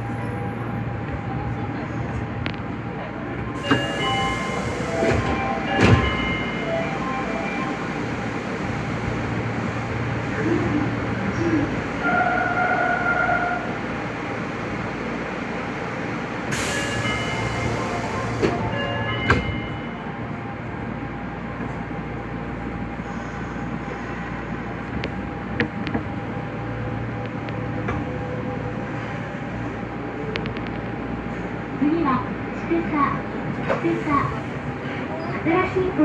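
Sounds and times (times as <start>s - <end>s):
subway train rumbling in tunnel: 0.0s - 36.0s.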